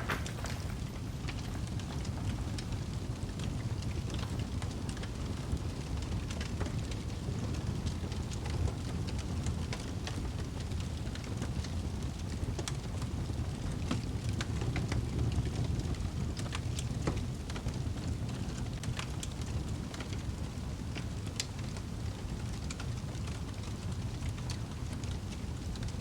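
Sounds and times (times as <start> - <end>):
fire crackling in fireplace: 0.0 - 26.0.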